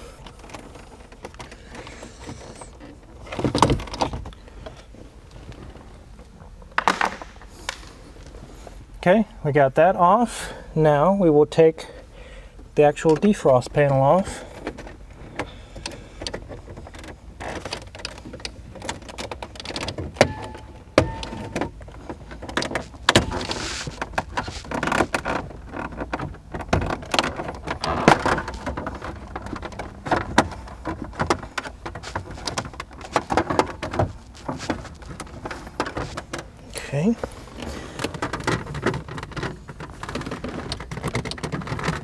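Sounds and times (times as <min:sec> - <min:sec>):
plastic scraping and rubbing: 0:00.2 - 0:07.4, 0:14.4 - 0:42.0.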